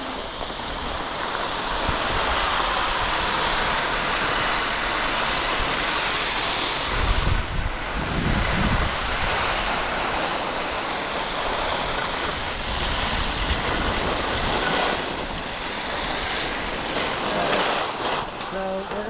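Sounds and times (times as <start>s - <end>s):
skis scraping on snow: 0.0s - 19.0s
wind rumbling on microphone: 0.0s - 19.0s.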